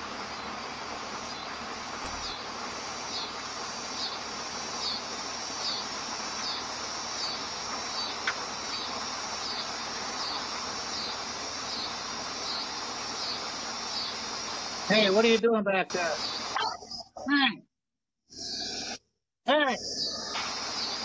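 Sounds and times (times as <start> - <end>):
steady hiss: 0.0 - 17.4, 18.3 - 21.0
insects chirping: 0.0 - 17.5, 18.3 - 21.0.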